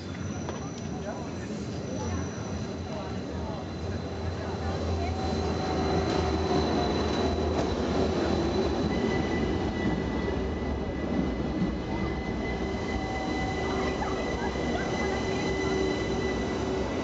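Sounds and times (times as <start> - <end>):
train low rumble: 0.0 - 17.0
train wheels squealing on rails: 0.0 - 17.0.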